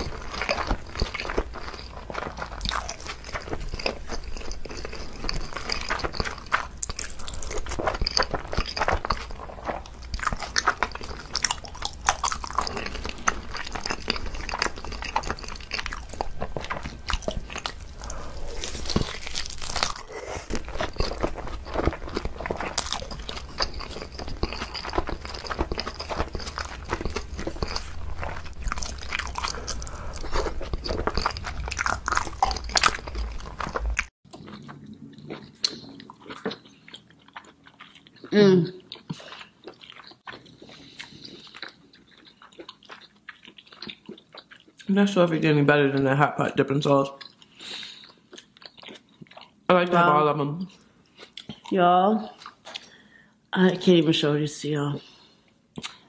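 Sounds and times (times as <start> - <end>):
person chewing crunchy food: 0.0 - 46.2, 46.8 - 53.2, 55.0 - 56.0.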